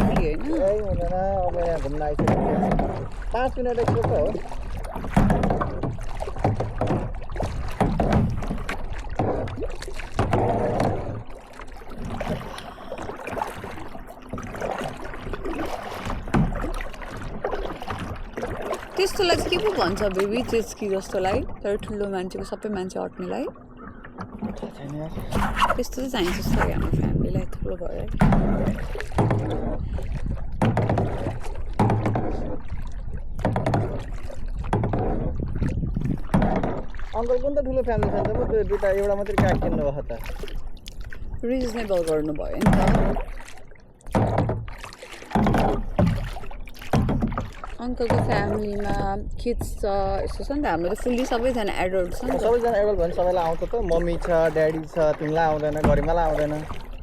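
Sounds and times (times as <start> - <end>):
wind rumble on microphone: 0.0 - 22.3, 24.4 - 43.4, 47.0 - 57.0
paddle strokes splashing: 0.0 - 57.0.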